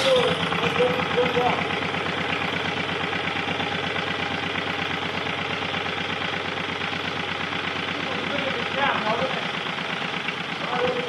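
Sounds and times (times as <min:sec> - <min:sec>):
stationary engine running: 0:00.0 - 0:11.0.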